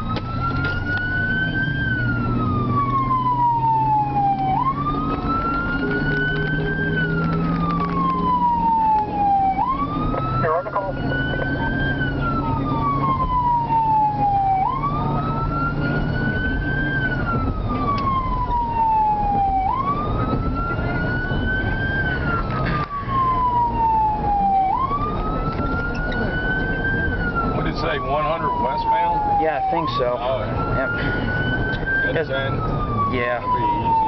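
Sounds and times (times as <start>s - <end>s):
fire truck siren wailing: 0.0s - 34.0s
road noise: 0.0s - 34.0s
truck engine drone: 0.0s - 34.0s.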